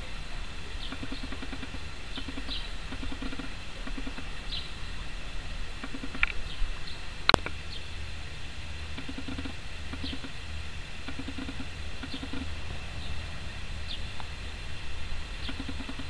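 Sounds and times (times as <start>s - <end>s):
low pulsing calls: 0.0s - 16.0s
steady low rumble: 0.0s - 16.0s
bird chirps: 0.2s - 8.1s, 8.9s - 10.4s, 11.0s - 16.0s.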